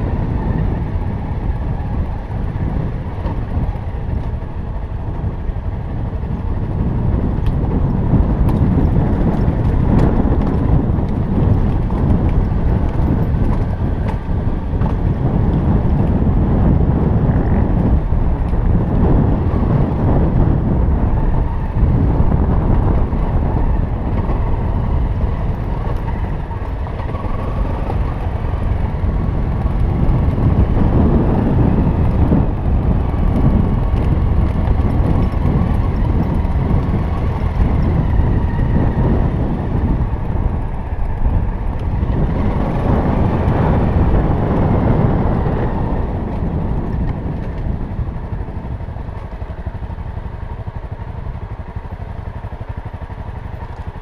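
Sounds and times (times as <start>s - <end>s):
motorcycle engine running: 0.0s - 54.0s
wind and track rumble: 0.0s - 54.0s.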